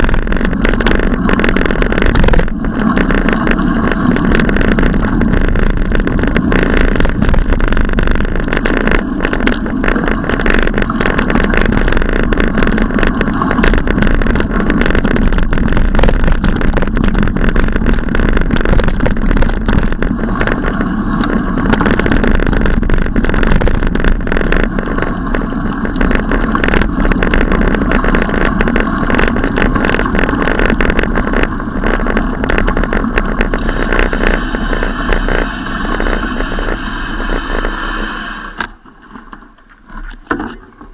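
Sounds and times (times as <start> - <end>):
wind and road noise: 0.0 - 40.4.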